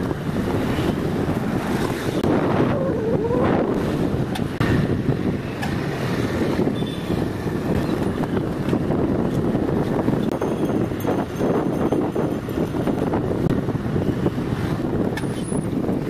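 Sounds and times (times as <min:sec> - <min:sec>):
road and traffic noise: 0:00.0 - 0:16.0
wind buffeting microphone: 0:00.0 - 0:16.0.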